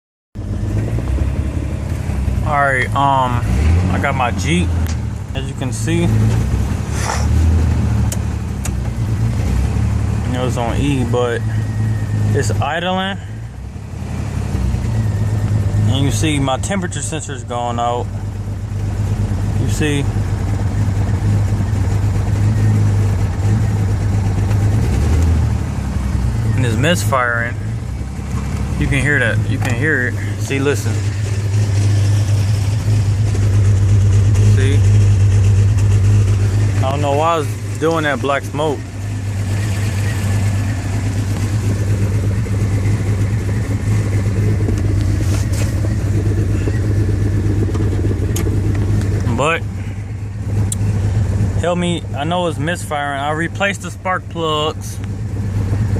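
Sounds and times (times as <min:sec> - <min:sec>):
car engine idling rough: 0:00.4 - 0:55.9.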